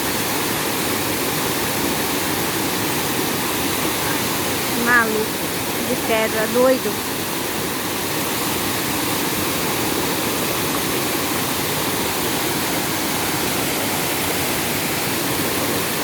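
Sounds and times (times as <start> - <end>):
waterfall roaring over rocks: 0.0 - 16.0.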